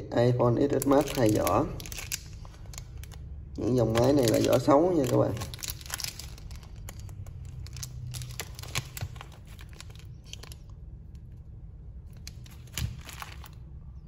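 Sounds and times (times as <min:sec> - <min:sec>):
plastic bags crinkling: 0:00.6 - 0:13.7.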